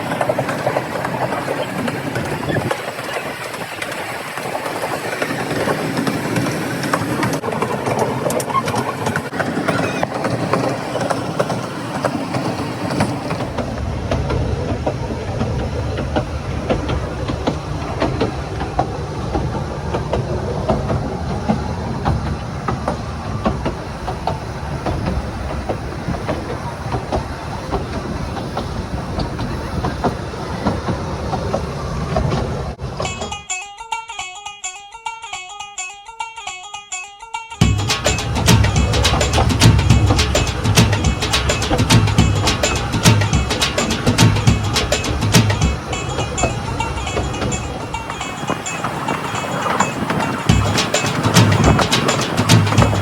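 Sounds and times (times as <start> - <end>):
deep train rumble: 0.0 - 33.3, 37.6 - 53.0
train wheels clicking on rail joints: 0.0 - 33.6, 37.6 - 53.0.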